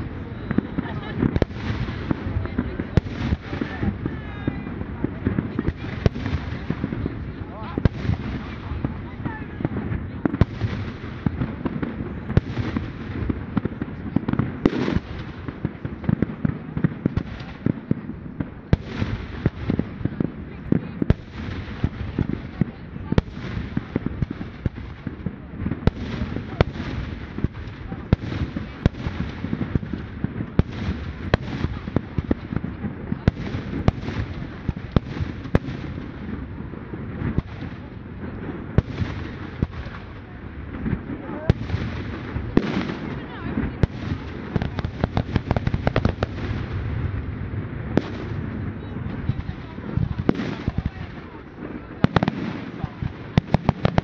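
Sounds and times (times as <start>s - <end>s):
crowd noise: 0.0s - 54.0s
fireworks bangs and crackling: 0.0s - 54.0s.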